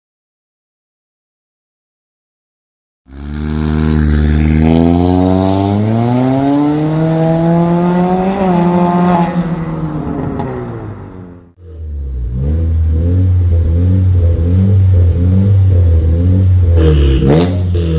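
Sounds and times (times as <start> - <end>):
car engine revving: 3.1 - 17.9.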